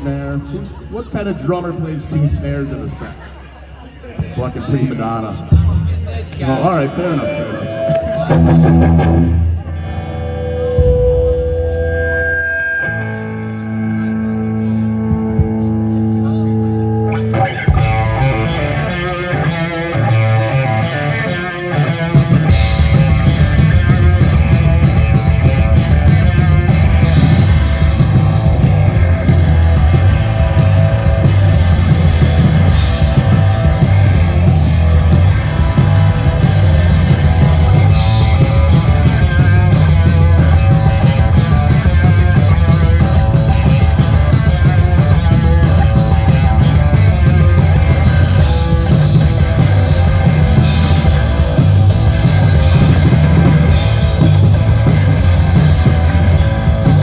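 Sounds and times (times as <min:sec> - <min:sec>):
heavy rock band playing live: 0:04.2 - 0:57.0.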